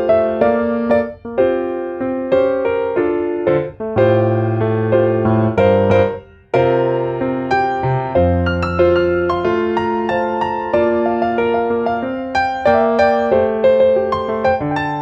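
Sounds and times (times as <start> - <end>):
gentle piano tune: 0.0 - 15.0.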